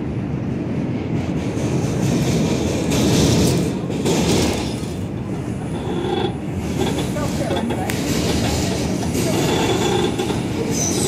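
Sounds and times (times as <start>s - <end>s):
subway car rumbling on rails: 0.0s - 11.0s.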